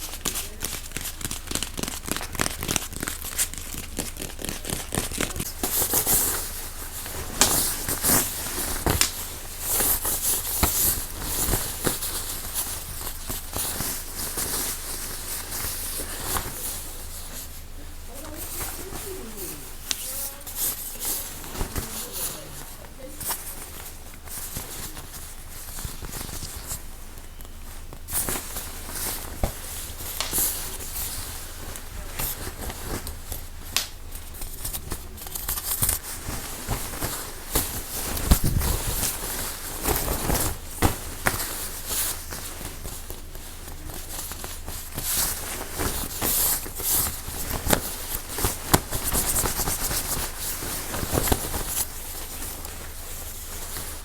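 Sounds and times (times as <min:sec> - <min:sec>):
crinkling: 0:00.0 - 0:54.0
scratching on objects: 0:00.0 - 0:54.0.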